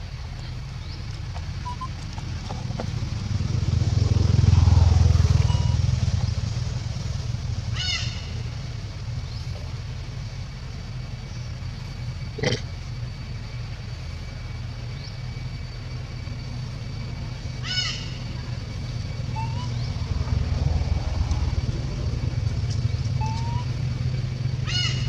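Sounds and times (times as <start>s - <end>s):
high insect drone: 0.0s - 25.0s
vehicle engine rumble: 0.0s - 25.0s.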